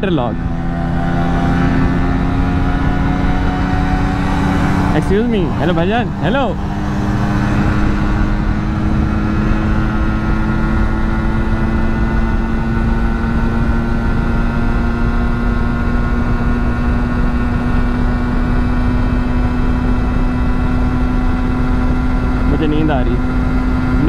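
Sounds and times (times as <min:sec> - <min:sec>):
wind rumble on microphone: 0:00.0 - 0:23.9
motorcycle engine at high revs: 0:00.0 - 0:24.0.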